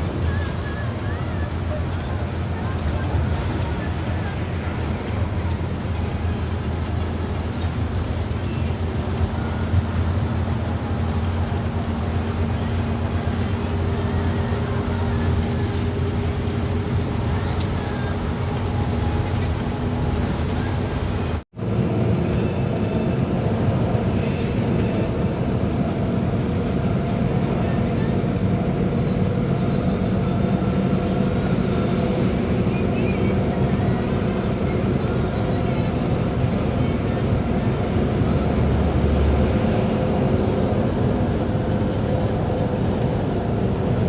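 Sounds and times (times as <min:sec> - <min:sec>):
engine and road rumble in bus: 0:00.0 - 0:44.0.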